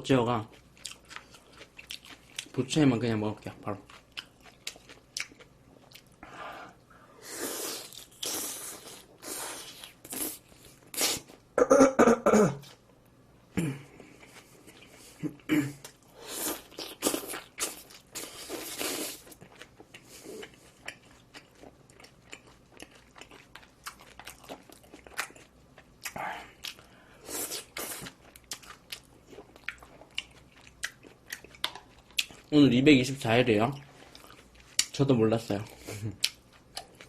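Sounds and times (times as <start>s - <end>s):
person chewing and crunching: 0.4s - 2.6s, 3.3s - 6.2s, 7.7s - 11.4s, 13.8s - 32.5s, 33.7s - 37.0s.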